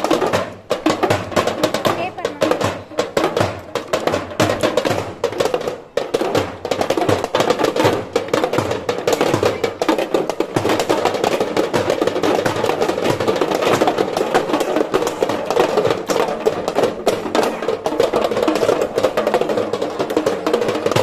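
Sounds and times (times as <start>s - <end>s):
hand drums beaten fast: 0.0s - 21.0s.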